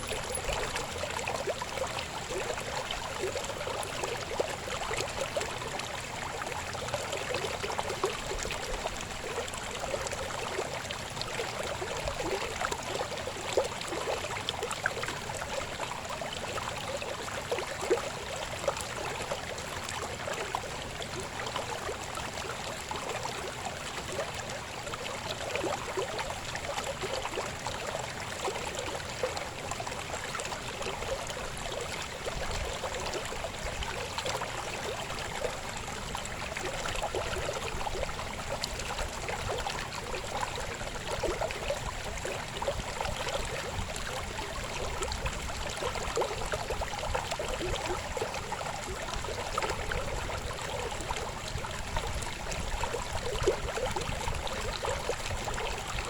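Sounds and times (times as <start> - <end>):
river babbling over stones: 0.0 - 56.0.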